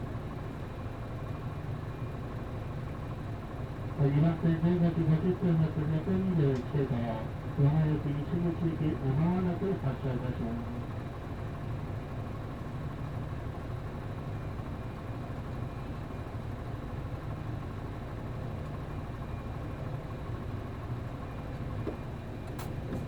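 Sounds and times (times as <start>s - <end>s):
diesel bus engine idling: 2.2s - 22.2s.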